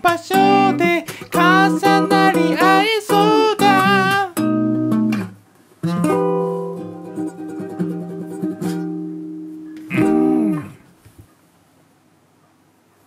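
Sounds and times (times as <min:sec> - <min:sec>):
acoustic guitar chords: 0:00.0 - 0:10.9.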